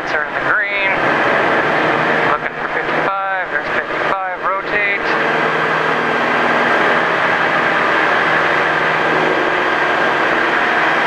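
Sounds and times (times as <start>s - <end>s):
plane engine and propeller: 0.0s - 11.0s.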